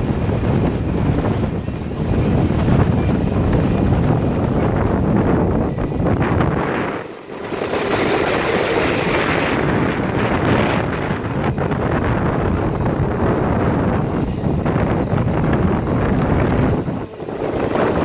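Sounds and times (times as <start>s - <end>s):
train running noise: 0.0s - 18.0s
wind rushing over microphone: 0.0s - 18.0s.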